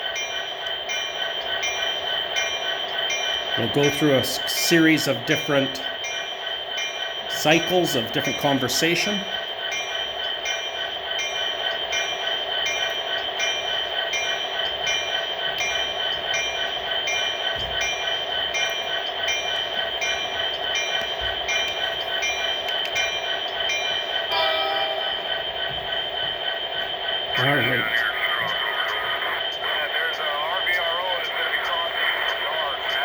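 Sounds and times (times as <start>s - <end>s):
model locomotive diesel idle: 0.0s - 33.0s.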